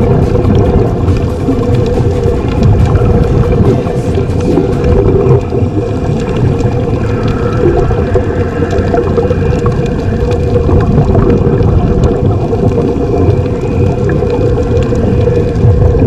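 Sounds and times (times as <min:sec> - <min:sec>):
gurgling air bubbles: 0:00.0 - 0:16.0
underwater rumble: 0:00.0 - 0:16.0.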